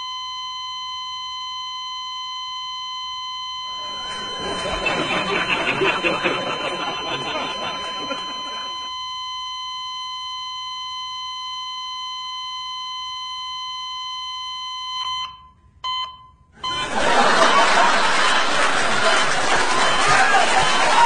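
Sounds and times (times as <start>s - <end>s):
short beep: 0.0s - 18.4s
high-pitched monitor alarm tone: 0.0s - 21.0s.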